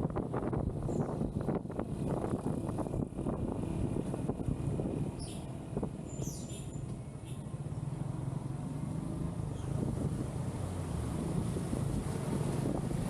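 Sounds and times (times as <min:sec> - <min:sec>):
wind rumbling on microphone: 0:00.0 - 0:07.0, 0:09.4 - 0:13.0.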